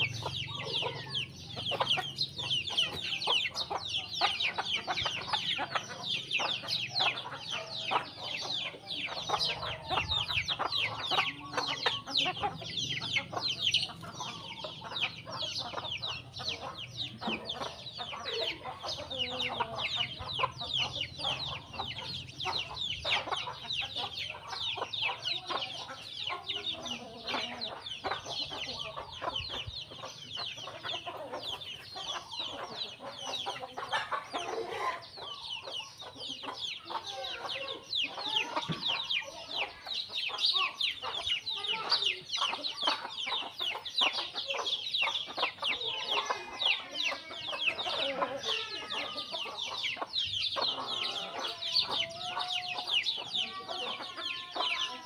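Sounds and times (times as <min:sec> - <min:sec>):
chickens clucking: 0:00.0 - 0:55.0
sparrows chirping: 0:00.0 - 0:55.0.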